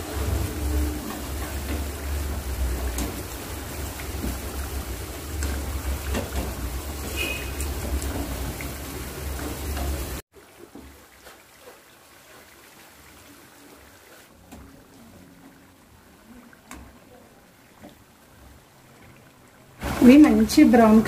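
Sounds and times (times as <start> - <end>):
food deep-frying in oil: 0.0 - 18.6.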